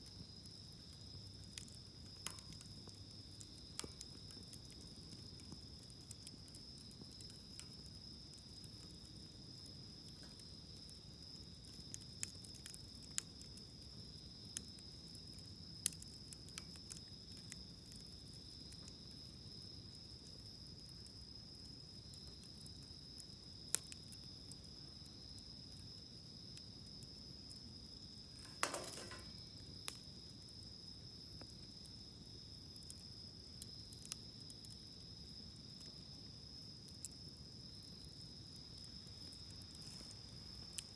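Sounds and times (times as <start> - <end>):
fire popping: 0.0 - 26.0, 26.6 - 30.6, 35.6 - 40.9
insect drone: 0.0 - 40.9
wood fire crackling: 0.0 - 40.9.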